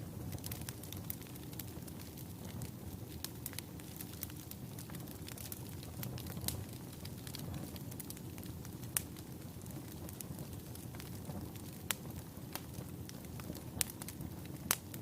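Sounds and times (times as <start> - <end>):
fire flames rumbling: 0.0 - 15.0
wood fire crackles and pops: 0.0 - 15.0.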